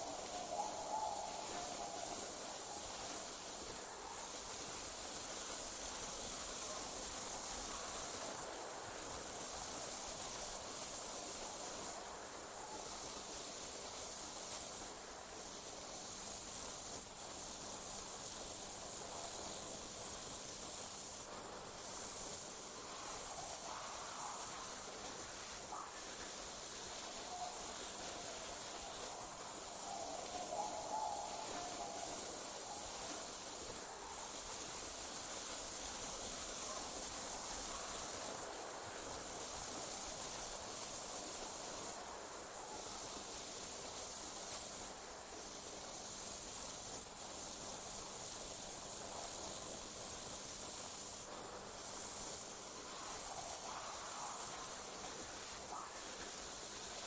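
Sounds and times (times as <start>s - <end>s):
crickets trilling: 0.0s - 8.4s, 15.4s - 42.0s, 42.6s - 57.0s.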